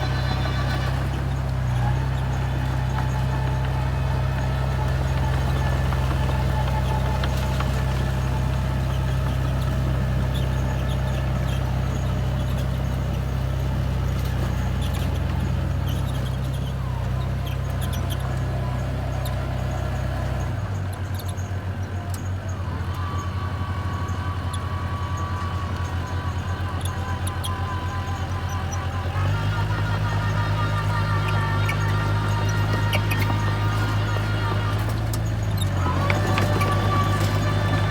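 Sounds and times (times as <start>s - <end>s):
bulldozer diesel engine running: 0.0s - 37.9s
machine clicks and squeaks: 0.0s - 37.9s.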